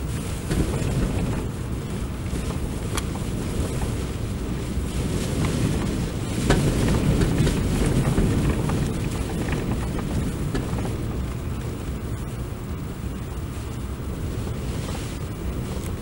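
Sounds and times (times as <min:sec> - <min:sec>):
surf breaking on rocky shore: 0:00.0 - 0:13.5.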